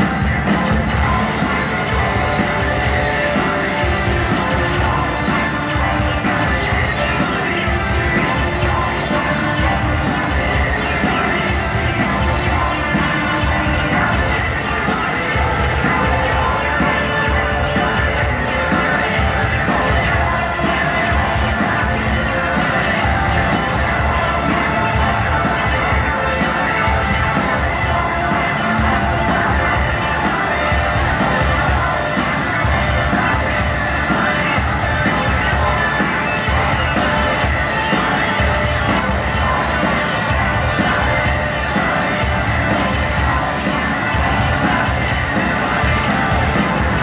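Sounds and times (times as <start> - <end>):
crowd noise: 0.0 - 47.0
live rock band: 0.0 - 47.0.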